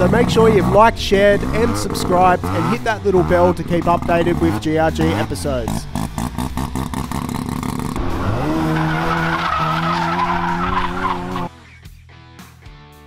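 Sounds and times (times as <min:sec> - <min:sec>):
car engine revving: 0:00.0 - 0:11.6
tyres skidding: 0:00.0 - 0:11.8.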